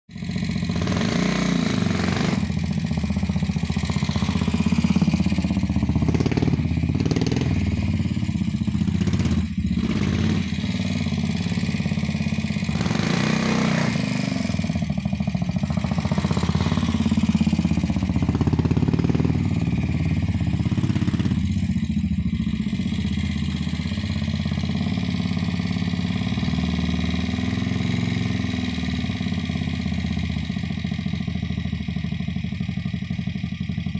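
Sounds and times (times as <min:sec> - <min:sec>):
motorcycle engine revving: 0:00.1 - 0:33.9.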